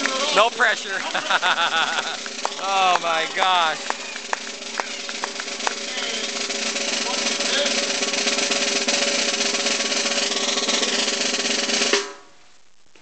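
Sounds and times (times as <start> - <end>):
snare drum roll: 0.0 - 12.3.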